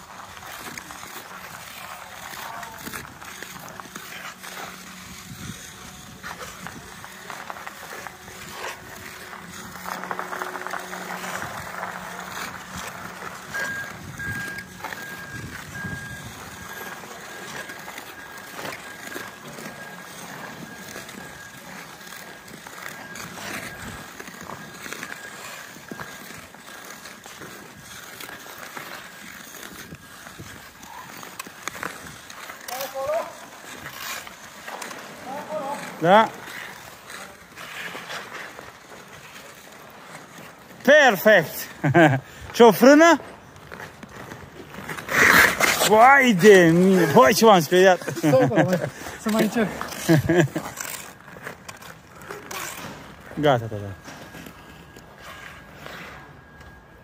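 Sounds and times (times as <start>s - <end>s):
skate blades gliding on ice: 0.0s - 57.0s.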